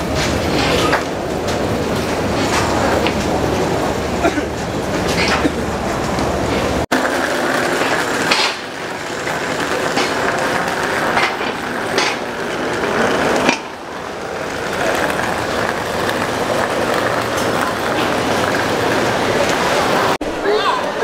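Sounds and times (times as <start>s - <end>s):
crowd walking on metal gangway: 0.0s - 21.0s.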